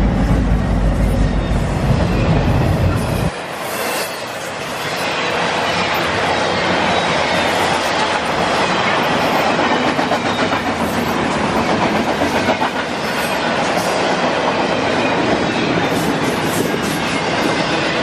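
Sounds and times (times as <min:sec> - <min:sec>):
train wheels rumbling and rattling: 0:00.0 - 0:18.0
wheels clickety-clack over track: 0:00.0 - 0:18.0.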